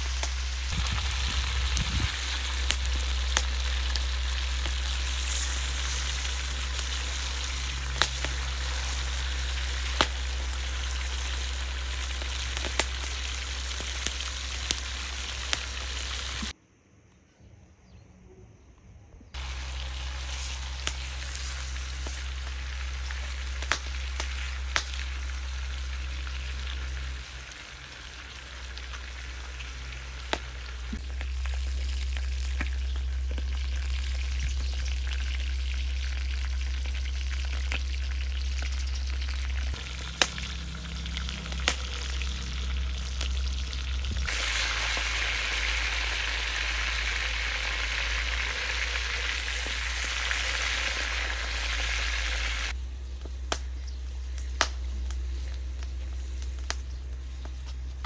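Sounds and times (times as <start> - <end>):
meat sizzling in a pot: 0.0 - 16.6, 19.4 - 56.7.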